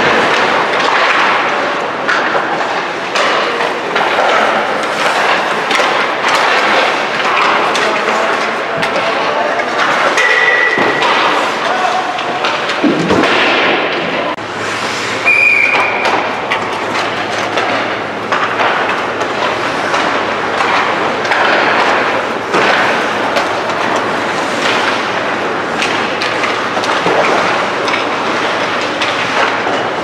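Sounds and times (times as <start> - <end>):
skate blades scraping ice: 0.0 - 13.4, 14.4 - 30.0
hockey sticks and pucks clacking: 0.0 - 30.0.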